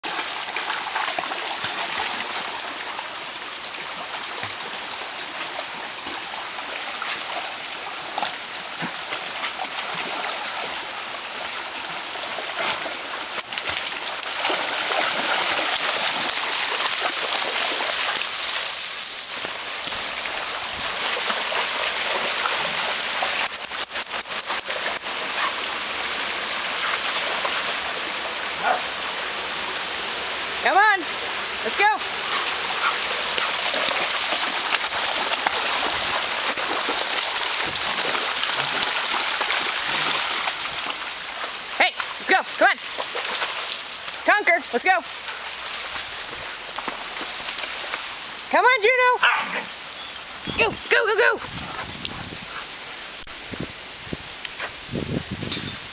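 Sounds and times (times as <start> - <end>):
dogs splashing through water: 0.0 - 54.7
creek water rippling over rocks: 0.0 - 55.9.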